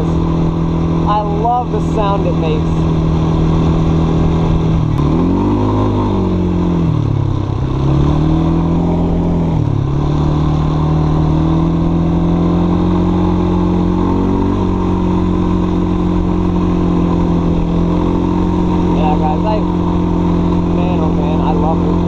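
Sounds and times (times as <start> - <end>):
atv engine growling: 0.0 - 22.0.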